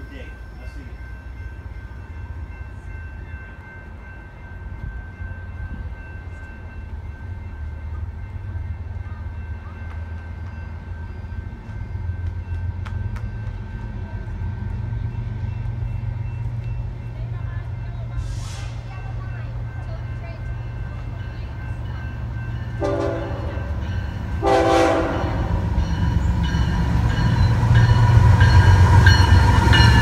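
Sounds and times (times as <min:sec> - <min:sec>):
diesel locomotive rumble: 0:00.0 - 0:30.0.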